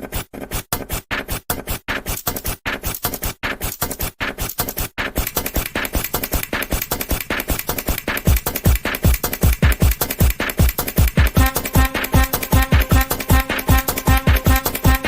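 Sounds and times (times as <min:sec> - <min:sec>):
scratching and scraping beat loop: 0:00.0 - 0:15.0.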